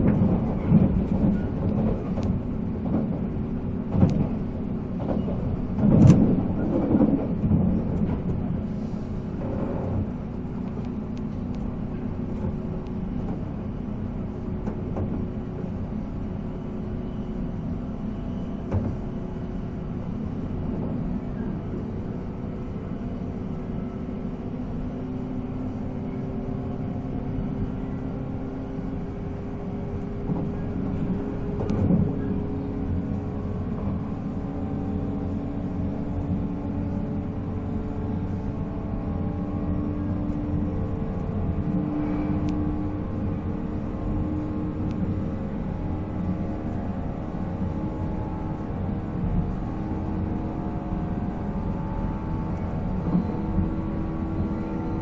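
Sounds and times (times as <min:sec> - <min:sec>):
train traction motors humming: 0:00.0 - 0:55.0
wheels rumbling on rail: 0:00.0 - 0:55.0.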